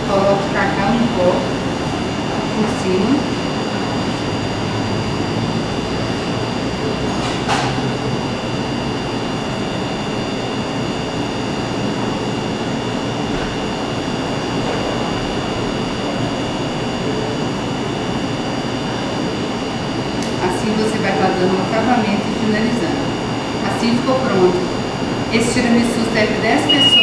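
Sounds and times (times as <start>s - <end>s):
faint high whines: 0.0s - 27.0s
rushing mechanical room noise: 0.0s - 27.0s.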